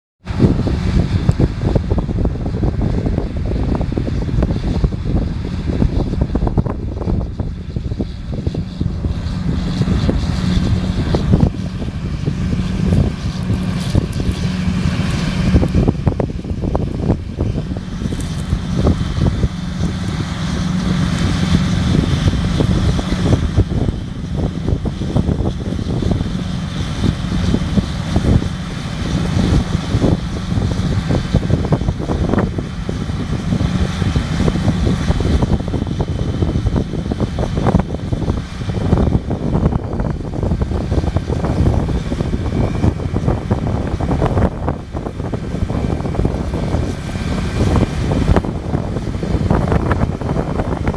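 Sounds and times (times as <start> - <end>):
tractor diesel engine running: 0.2 - 50.9.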